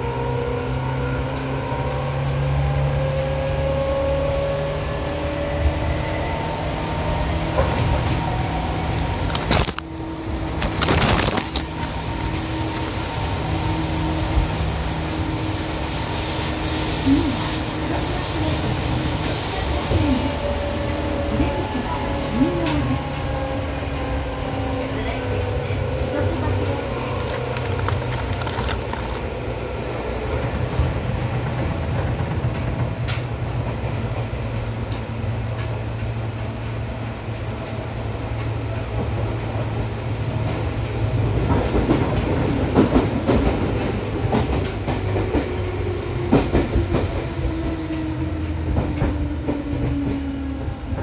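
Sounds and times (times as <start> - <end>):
train wheels and motors rumbling: 0.0 - 51.0.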